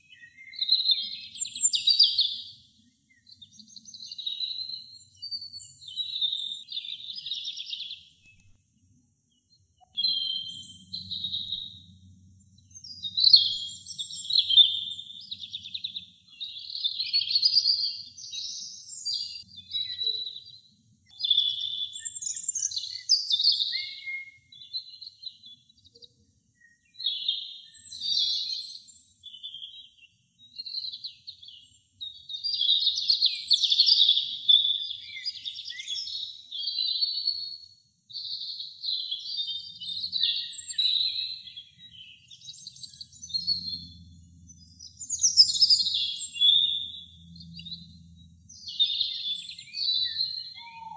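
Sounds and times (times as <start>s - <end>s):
robin singing: 0.0s - 50.9s.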